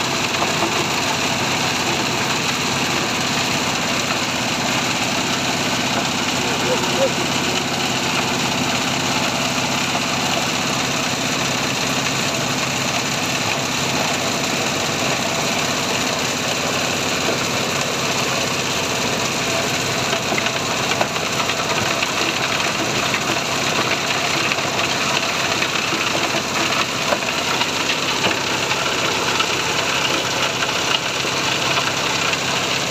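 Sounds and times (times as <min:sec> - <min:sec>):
crusher grinding fruit: 0:00.0 - 0:32.9.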